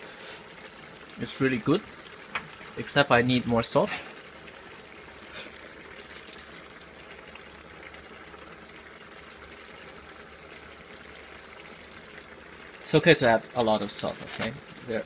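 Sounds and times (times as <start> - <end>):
curry bubbling in a pot: 0.0 - 15.0.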